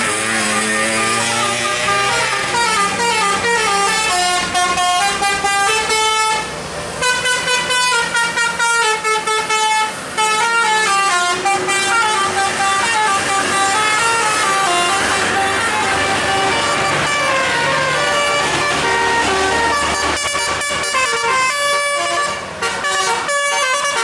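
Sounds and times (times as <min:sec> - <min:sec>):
musical bus air horn melody: 0:00.0 - 0:24.0.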